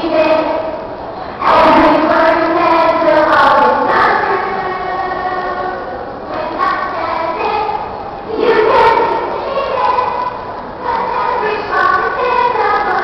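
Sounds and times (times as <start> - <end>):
children singing: 1.4 - 13.0.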